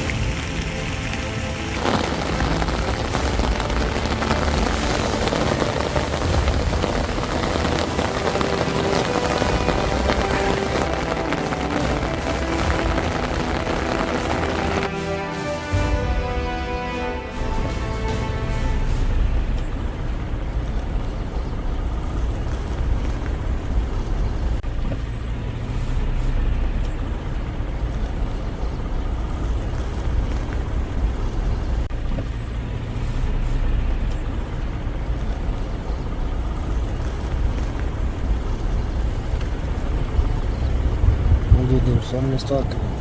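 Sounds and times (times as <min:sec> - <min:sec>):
vehicle road and engine rumble: 0:00.0 - 0:15.4, 0:16.1 - 0:43.0.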